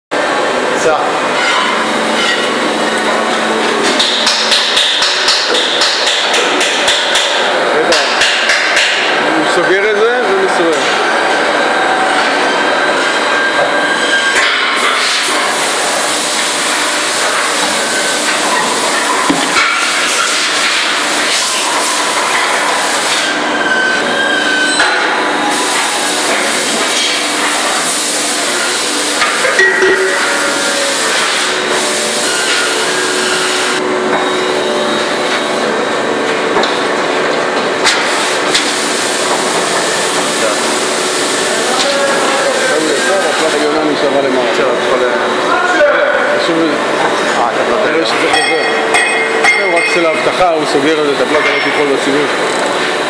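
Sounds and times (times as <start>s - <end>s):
loud factory machinery noise: 0.1s - 53.0s.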